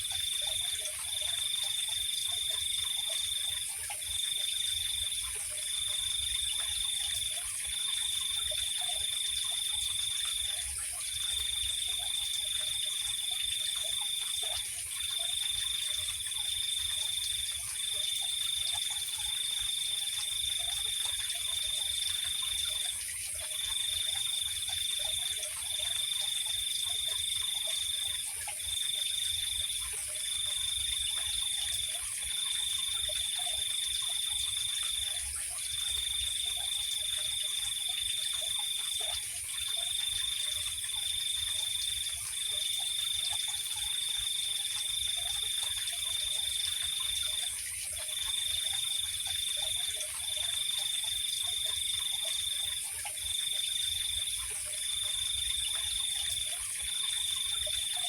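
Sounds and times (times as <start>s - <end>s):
cricket trilling: 0.0s - 58.0s
faint low frog calls: 0.0s - 58.0s.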